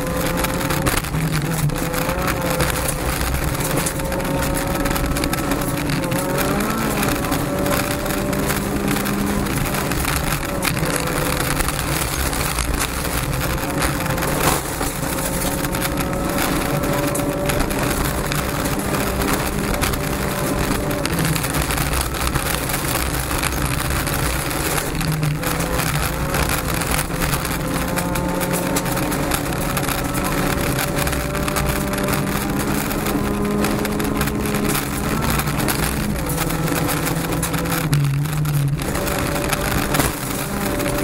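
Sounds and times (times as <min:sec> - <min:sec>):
car engine at full throttle: 0:00.0 - 0:41.0
gravel clattering against underbody: 0:00.0 - 0:41.0.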